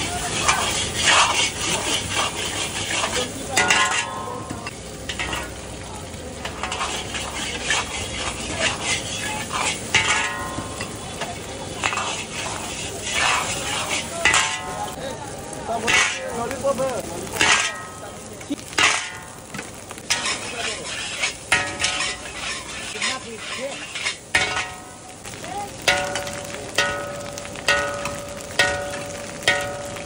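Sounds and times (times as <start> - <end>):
ladle clanging on wok: 0.0 - 15.0, 15.8 - 16.3, 17.3 - 30.0
metal ladle scraping wok: 0.0 - 15.0, 15.7 - 16.6, 17.3 - 30.0
eggs sizzling in hot oil: 0.0 - 30.0.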